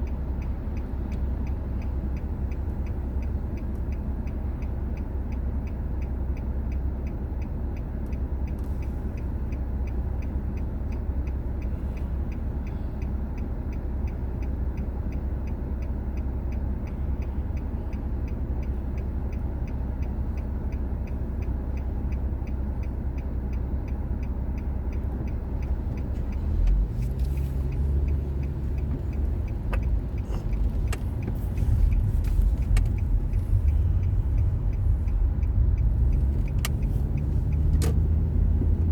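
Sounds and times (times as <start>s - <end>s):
car engine and road rumble: 0.0s - 38.9s
faint regular ticking: 0.0s - 38.9s.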